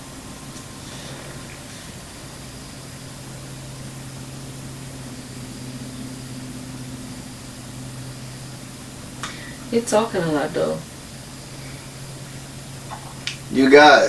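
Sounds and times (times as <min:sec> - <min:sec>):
background hiss: 0:00.0 - 0:14.0
low hum: 0:00.0 - 0:14.0.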